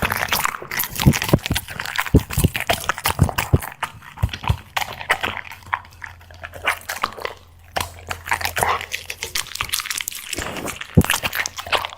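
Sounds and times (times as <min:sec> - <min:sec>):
dog chewing dry snacks: 0:00.0 - 0:11.9.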